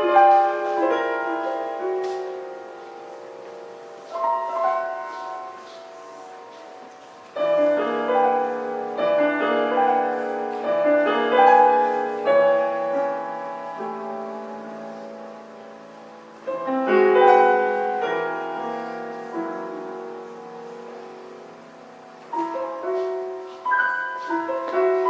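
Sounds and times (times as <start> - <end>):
solo piano: 0.0 - 25.0.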